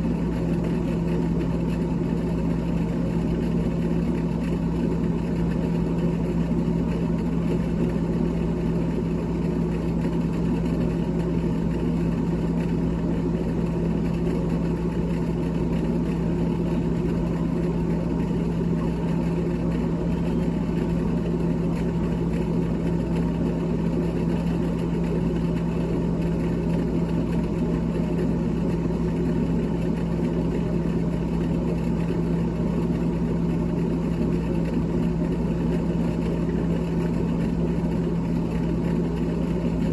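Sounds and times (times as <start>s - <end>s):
refrigerator motor hum: 0.0s - 39.9s.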